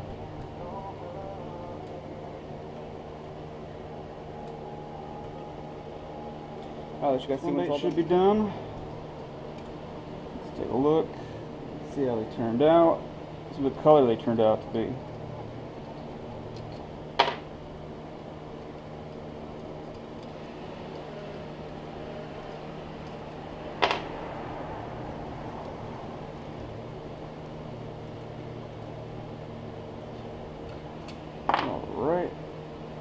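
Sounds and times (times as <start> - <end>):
electric desk fan humming: 0.0 - 33.0.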